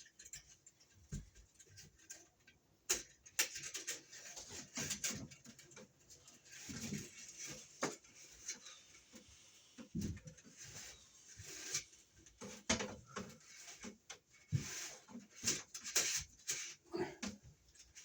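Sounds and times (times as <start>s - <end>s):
cable rustling and scraping: 0.0s - 18.0s.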